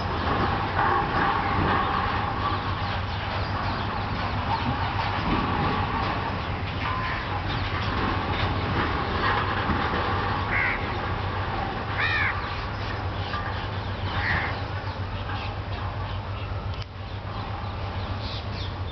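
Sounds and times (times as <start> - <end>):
birds calling: 0.0 - 18.9
steady background hum: 0.0 - 18.9.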